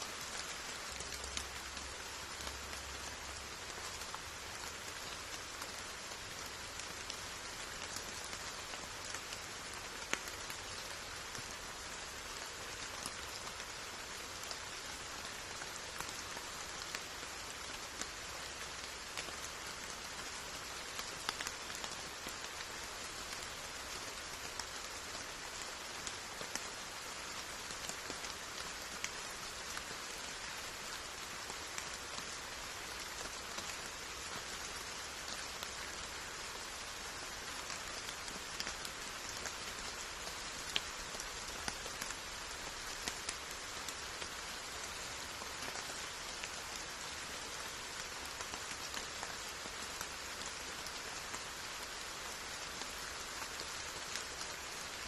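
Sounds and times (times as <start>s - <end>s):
raindrops ticking on surfaces: 0.0s - 55.0s
steady rain falling: 0.0s - 55.0s.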